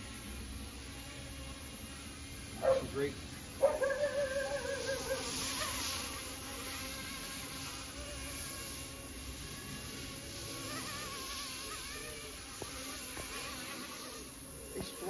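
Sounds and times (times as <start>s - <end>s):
rc helicopter buzzing whine: 0.0s - 15.0s.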